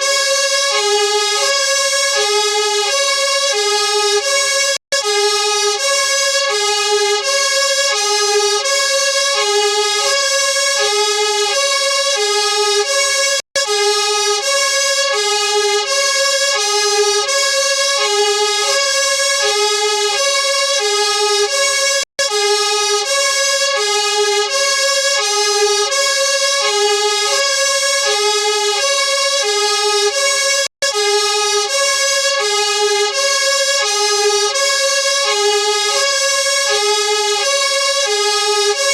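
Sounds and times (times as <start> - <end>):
two-tone fire engine siren: 0.0 - 38.9.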